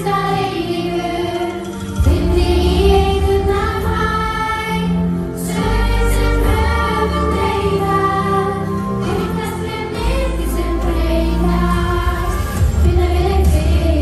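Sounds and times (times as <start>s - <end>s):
group of young people singing: 0.0s - 14.0s
instrumental accompaniment with bass: 0.0s - 14.0s.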